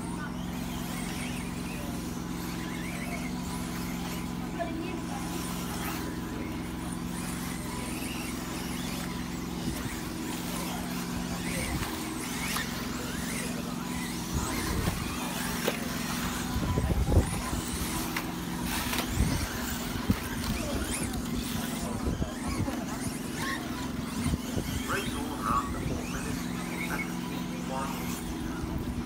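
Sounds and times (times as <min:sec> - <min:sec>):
steady low hum: 0:00.0 - 0:29.0
toy car motor whines: 0:00.0 - 0:29.0.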